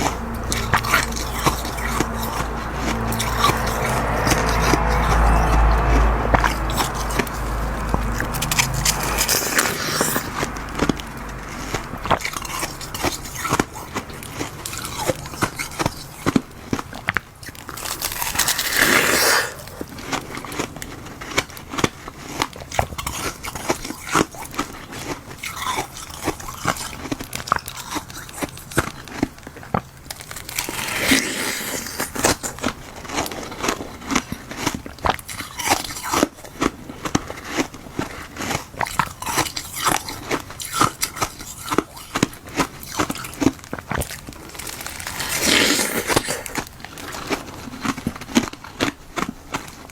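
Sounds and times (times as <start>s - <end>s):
ice crunching being chewed: 0.0s - 49.9s.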